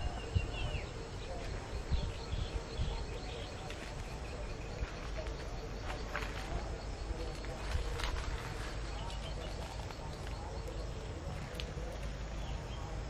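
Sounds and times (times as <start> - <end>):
faint bird chirps: 0.0 - 13.0
low rumbling background noise: 0.0 - 13.0.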